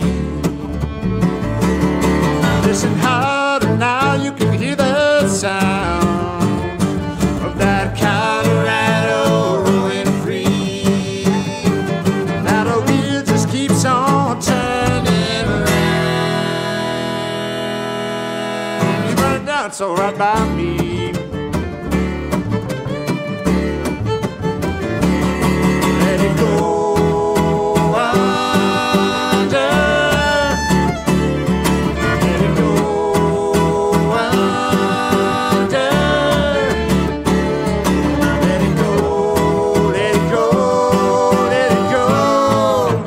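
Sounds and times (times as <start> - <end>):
fiddle sliding bowed notes: 0.0 - 4.0, 4.9 - 19.6, 20.4 - 43.0
plucked upright bass: 0.0 - 17.5, 20.2 - 43.0
strummed acoustic guitar: 0.0 - 43.0.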